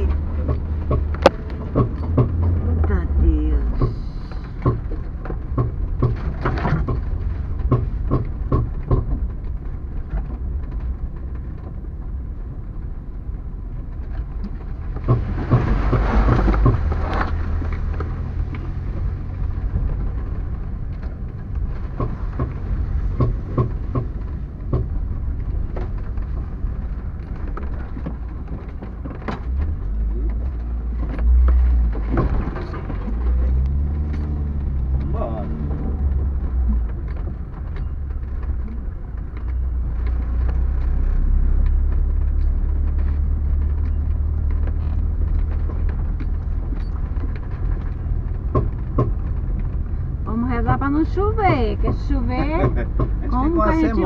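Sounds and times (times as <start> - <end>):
knocks and rattles of vehicle body: 0.0 - 54.0
vehicle engine and road rumble: 0.0 - 54.0.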